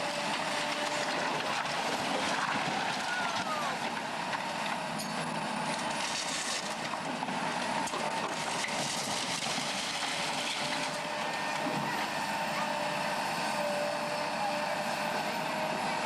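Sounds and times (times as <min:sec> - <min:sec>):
heavy machinery drone: 0:00.0 - 0:16.0.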